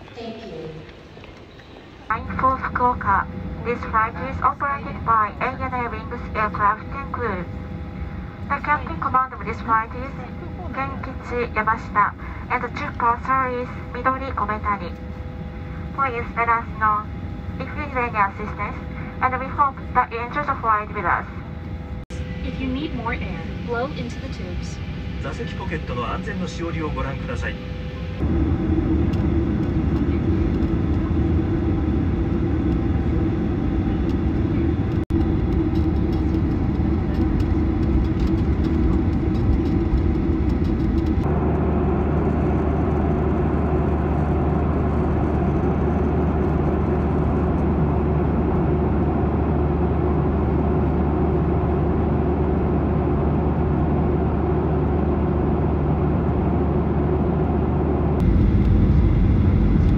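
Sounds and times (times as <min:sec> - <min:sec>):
constant low hum: 0:00.0 - 0:59.9
jet airliner cabin drone: 0:00.0 - 0:59.9.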